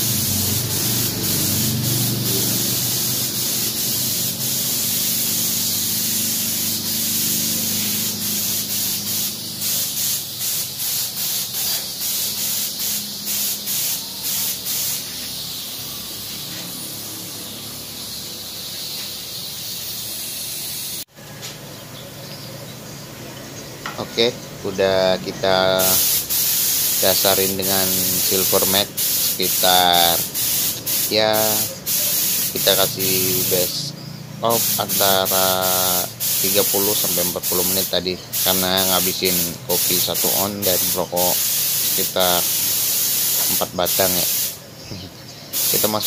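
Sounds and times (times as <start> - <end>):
paint spray gun hissing: 0.0 - 21.1, 25.5 - 46.0.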